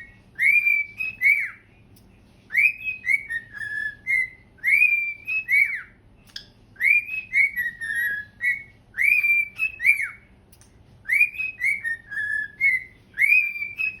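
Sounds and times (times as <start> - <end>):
cockatiel whistling: 0.0 - 1.7, 2.5 - 6.0, 6.8 - 10.3, 11.0 - 14.0.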